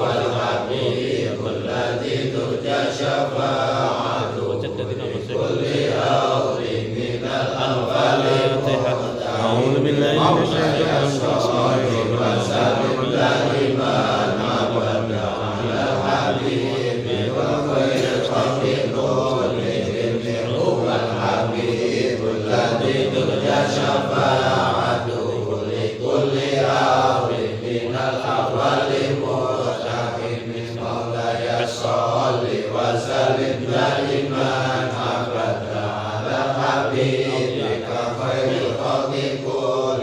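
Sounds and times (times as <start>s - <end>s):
men chanting in unison: 0.0s - 40.0s.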